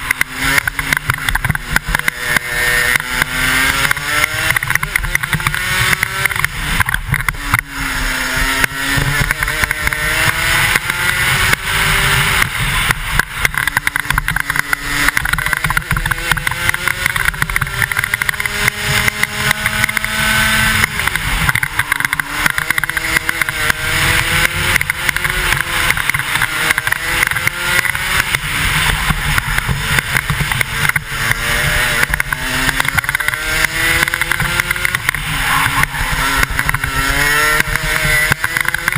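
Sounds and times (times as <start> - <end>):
two-stroke kart engine accelerating: 0.0 - 38.9.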